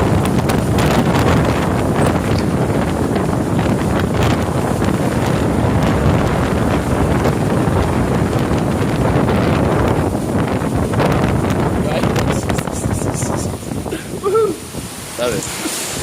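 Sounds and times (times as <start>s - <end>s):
gusting wind buffeting microphone: 0.0s - 16.0s.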